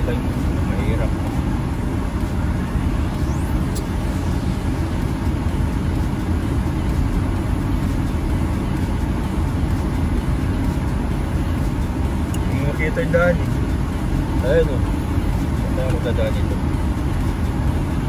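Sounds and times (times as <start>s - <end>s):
car engine and tyres on snow: 0.0s - 18.0s.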